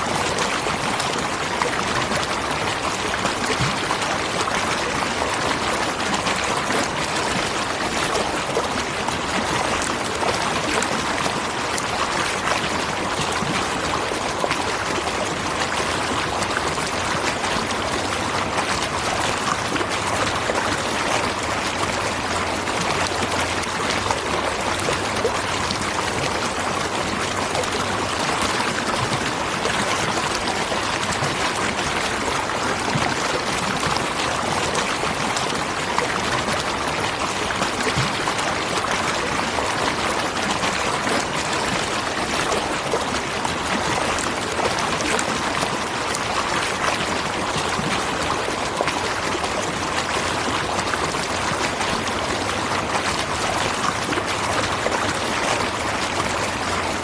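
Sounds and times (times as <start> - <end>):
small water splashes: 0.0 - 57.0.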